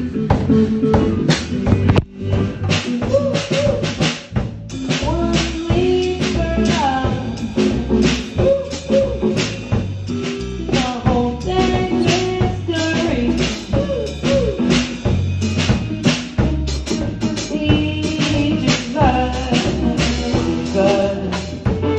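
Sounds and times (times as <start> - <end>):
band music: 0.0 - 21.9
drum kit beat: 0.0 - 21.9.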